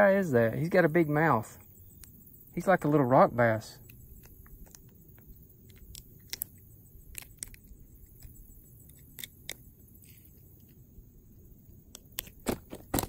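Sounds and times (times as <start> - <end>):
faint low background noise: 0.0 - 13.0.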